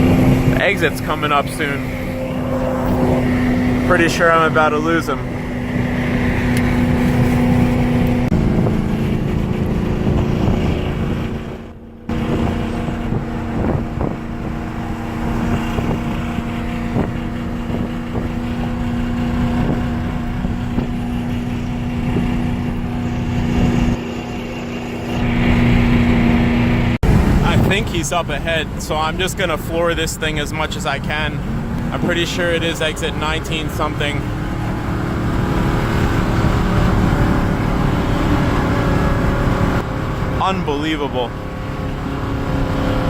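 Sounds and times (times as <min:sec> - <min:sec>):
wind noise: 0:00.0 - 0:24.1, 0:24.9 - 0:40.3
misfiring car engine droning: 0:00.0 - 0:43.0
road noise: 0:00.0 - 0:43.0.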